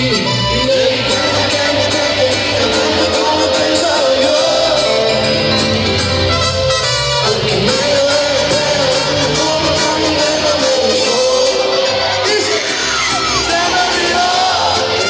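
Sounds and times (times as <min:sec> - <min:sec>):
man singing into a microphone: 0:00.0 - 0:05.6, 0:07.1 - 0:15.0
mariachi band playing: 0:00.0 - 0:15.0.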